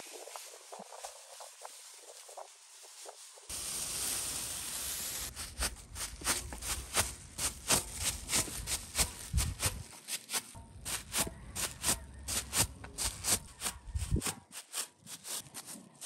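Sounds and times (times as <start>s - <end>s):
crinkly plastic dabs: 0.0s - 16.0s
plastic film rustling on metal: 0.0s - 16.0s.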